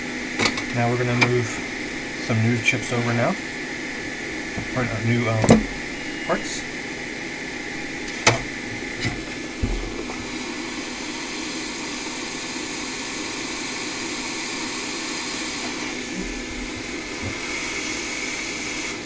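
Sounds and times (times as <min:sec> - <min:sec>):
hot air station blowing hiss: 0:00.0 - 0:19.0.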